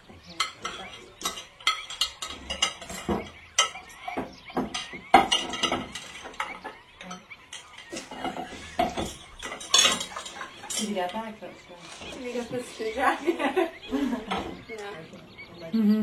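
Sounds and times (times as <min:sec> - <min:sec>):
plates and cutlery clinking: 0:00.0 - 0:15.5.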